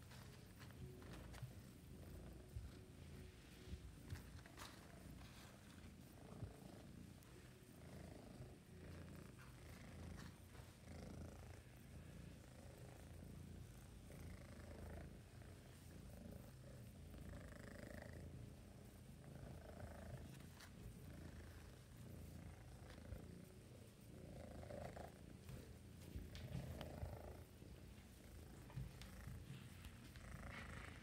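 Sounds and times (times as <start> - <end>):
kittens purring: 0.0 - 31.0.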